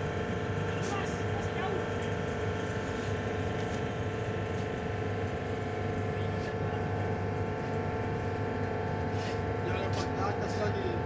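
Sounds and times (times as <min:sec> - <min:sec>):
deck machinery humming: 0:00.0 - 0:11.0
ship engines droning: 0:00.0 - 0:11.0.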